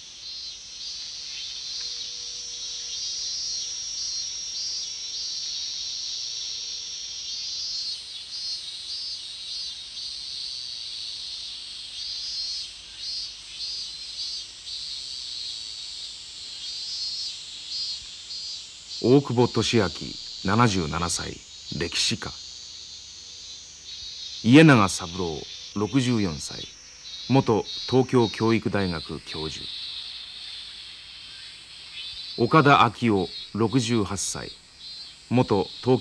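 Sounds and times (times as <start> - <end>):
cicadas shrilling: 0.0 - 36.0
high-pitched insect call: 0.0 - 36.0.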